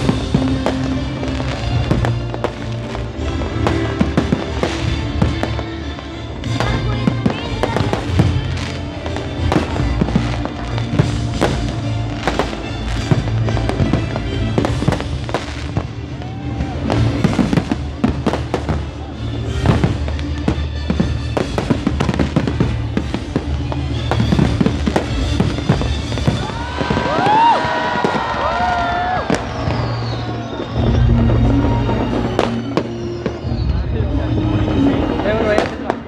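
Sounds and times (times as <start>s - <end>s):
background music: 0.0s - 36.0s
fireworks bangs and crackles: 0.0s - 36.0s.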